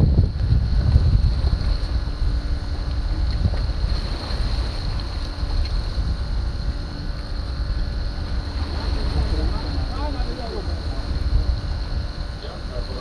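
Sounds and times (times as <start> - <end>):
faint high whine: 0.0 - 13.0
sea water washing around boat: 0.0 - 13.0
wind buffeting microphone: 0.0 - 13.0.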